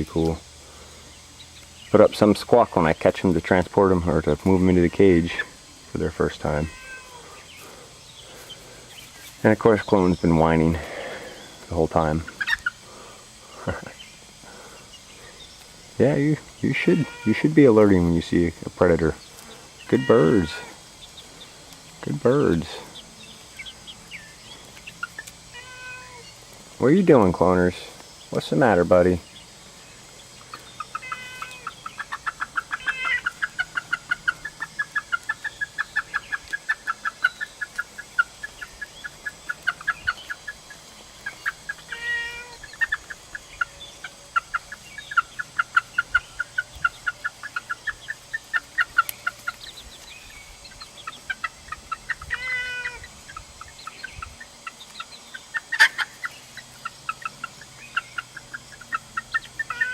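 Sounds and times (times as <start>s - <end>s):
chickens alarm clucking: 0.0s - 59.9s.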